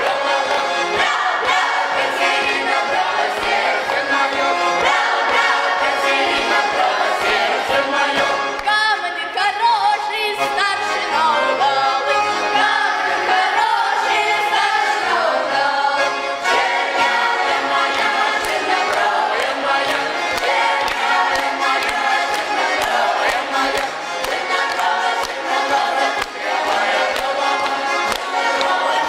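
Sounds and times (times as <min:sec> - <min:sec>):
button accordion: 0:00.0 - 0:29.0
children's choir singing: 0:00.0 - 0:29.0.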